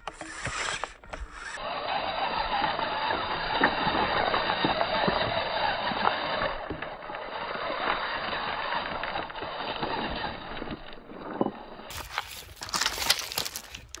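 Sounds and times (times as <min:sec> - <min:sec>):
rc car motor whining: 0:00.0 - 0:14.0.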